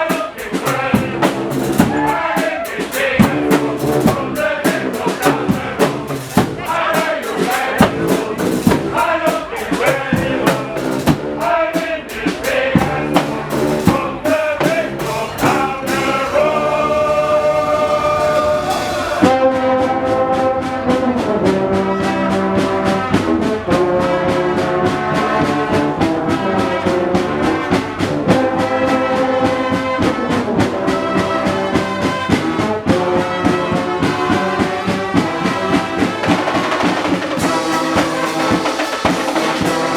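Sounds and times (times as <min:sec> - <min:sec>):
brass band playing: 0:00.0 - 0:39.9
driving drum beat: 0:00.0 - 0:39.9.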